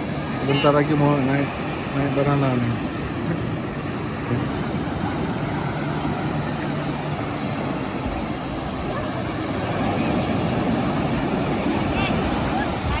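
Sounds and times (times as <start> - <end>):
broad noisy rush: 0.0 - 13.0.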